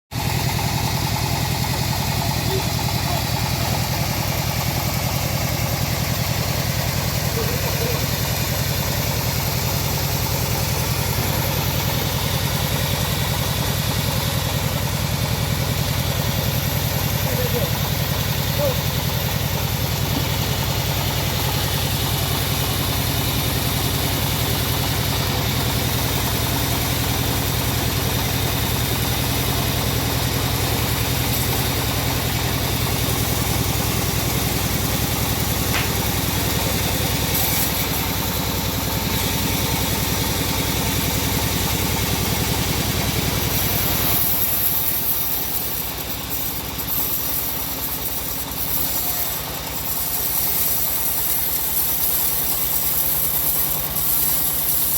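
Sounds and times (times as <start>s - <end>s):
sawmill engine droning: 0.1s - 54.9s.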